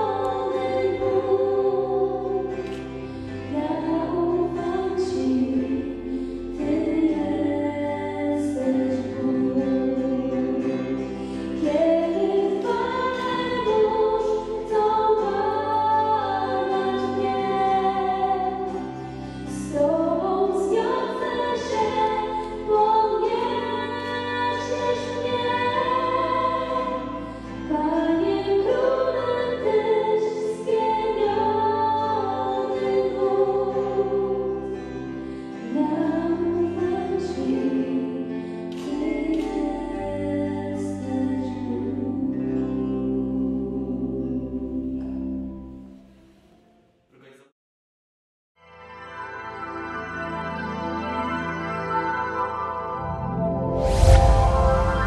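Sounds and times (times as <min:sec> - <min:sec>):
voices singing a worship song: 0:00.0 - 0:45.6
keyboard chords and bass: 0:00.0 - 0:46.4, 0:48.6 - 0:55.0.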